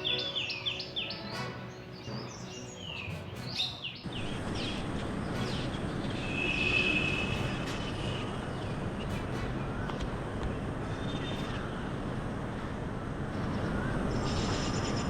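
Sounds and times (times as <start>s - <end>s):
birds chirping: 0.0s - 15.0s
rushing outdoor noise: 0.0s - 15.0s.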